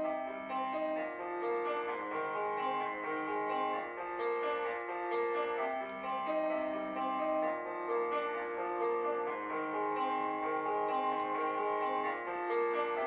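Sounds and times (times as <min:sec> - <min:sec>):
plucked guitar melody: 0:00.0 - 0:13.0.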